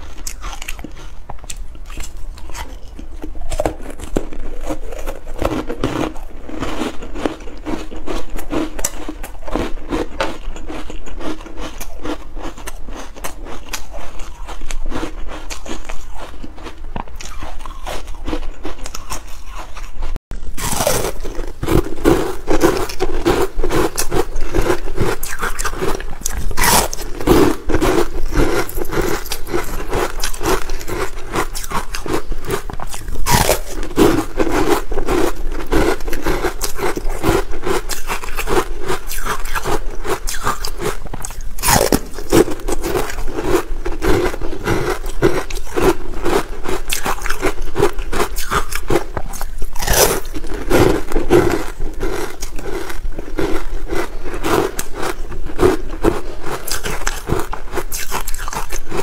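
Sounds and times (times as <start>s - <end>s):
crunching ice: 0.0s - 59.0s.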